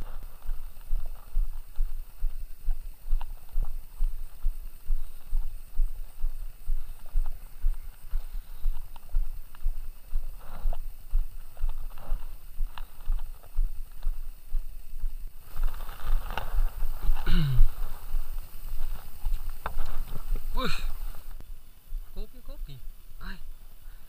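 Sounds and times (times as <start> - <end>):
faint clicks: 0.2 - 22.8.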